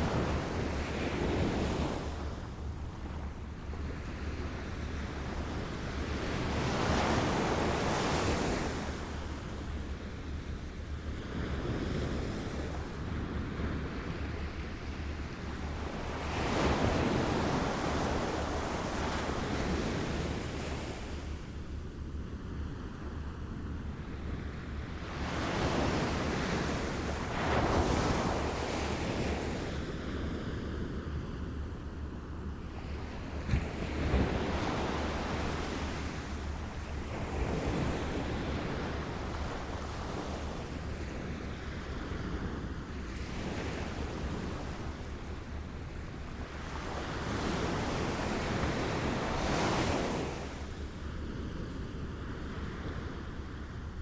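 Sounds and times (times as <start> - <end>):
small waves lapping at shore: 0.0 - 31.1, 32.6 - 53.8.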